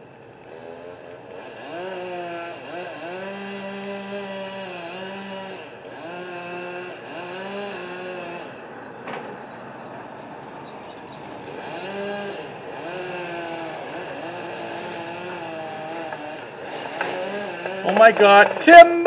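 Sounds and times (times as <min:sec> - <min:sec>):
chainsaw revving: 0:00.4 - 0:19.0.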